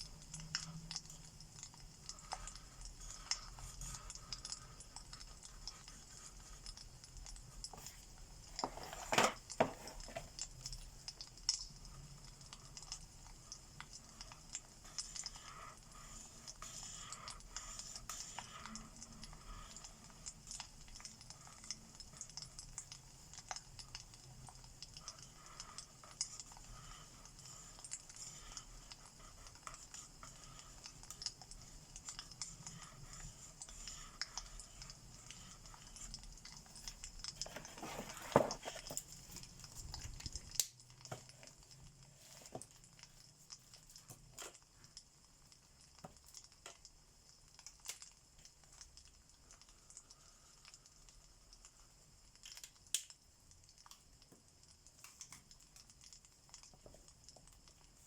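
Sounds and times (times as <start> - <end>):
soft steady hiss: 0.0 - 58.0.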